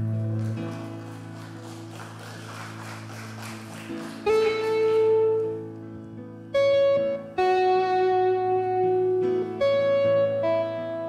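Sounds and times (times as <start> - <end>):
slow lead melody: 0.0 - 11.0.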